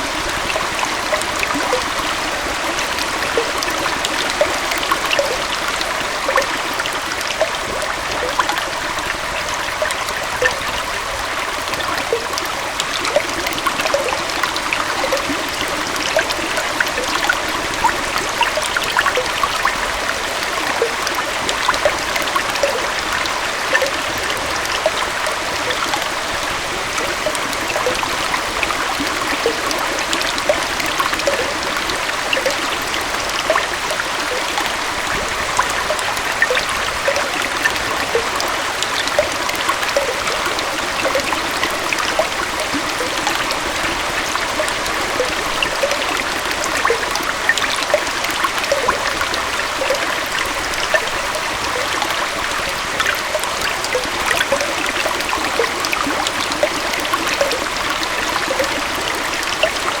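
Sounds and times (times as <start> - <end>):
small waterfall splashing over rocks: 0.0 - 60.0.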